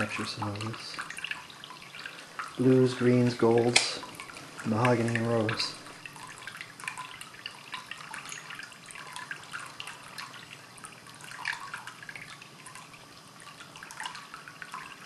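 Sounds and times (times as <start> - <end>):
light water drips: 0.0 - 15.0
water trickling into bowl: 0.0 - 15.0.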